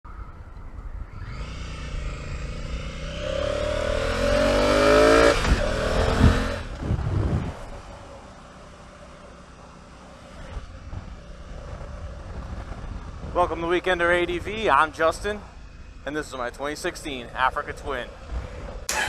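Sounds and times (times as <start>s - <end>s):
motorcycle engine accelerating: 0.1s - 19.0s.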